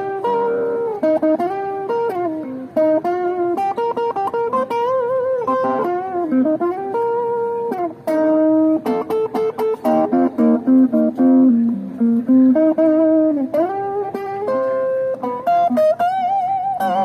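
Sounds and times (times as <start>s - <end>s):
guitar playing plucked melody: 0.0s - 17.0s.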